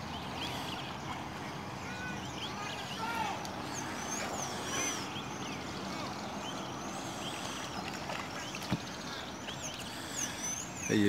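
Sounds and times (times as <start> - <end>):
birds singing and calling: 0.0 - 11.0.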